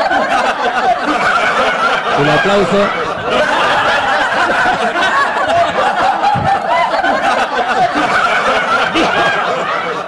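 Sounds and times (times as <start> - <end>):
audience laughing and shouting: 0.0 - 10.0.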